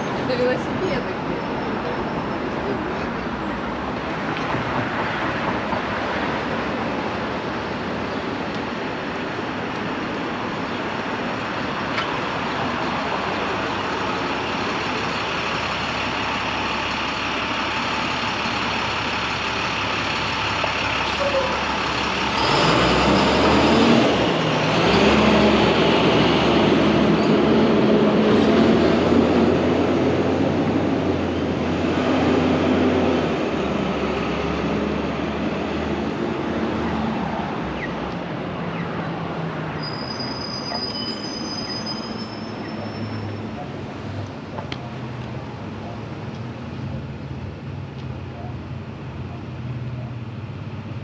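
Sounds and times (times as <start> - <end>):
heavy vehicle engine hum: 0.0 - 51.0.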